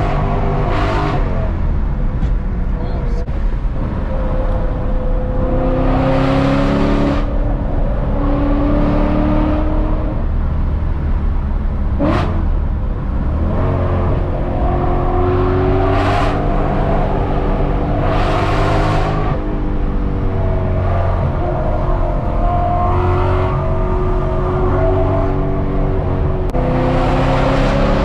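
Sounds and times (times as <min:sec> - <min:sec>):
car engine accelerating through gears: 0:00.0 - 0:28.0.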